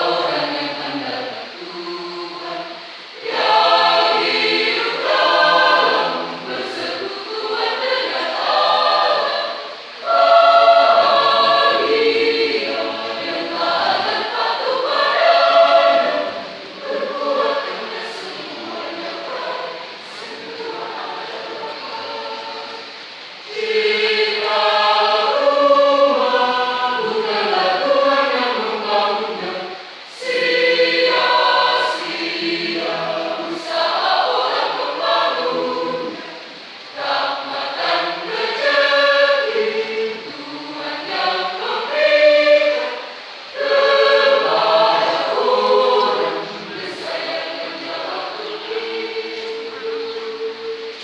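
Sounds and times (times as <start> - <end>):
choir singing: 0.0 - 51.0.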